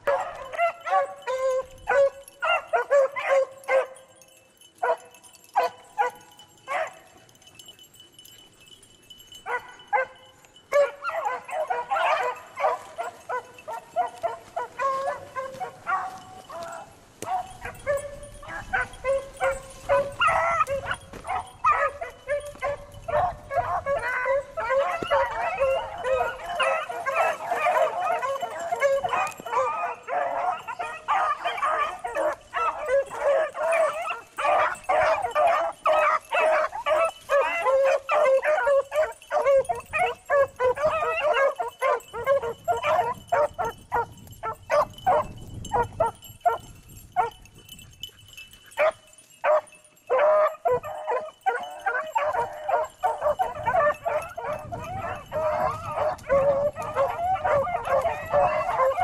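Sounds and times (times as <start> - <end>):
dogs baying: 0.0 - 59.0.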